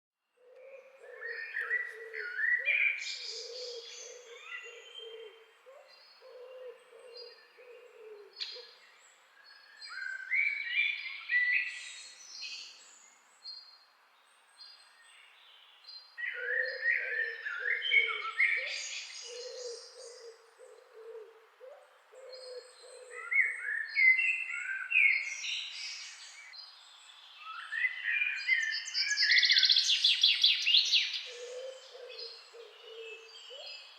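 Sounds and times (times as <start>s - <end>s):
birds singing warbled song: 0.2s - 33.9s
low repeated bird call: 0.4s - 12.8s, 16.2s - 26.6s, 27.5s - 33.9s.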